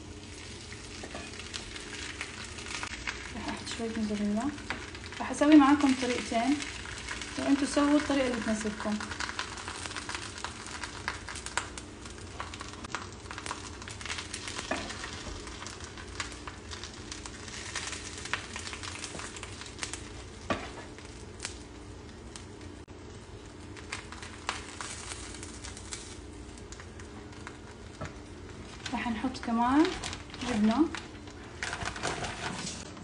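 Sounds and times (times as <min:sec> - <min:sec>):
oil sizzling in a frying pan: 0:00.0 - 0:32.8.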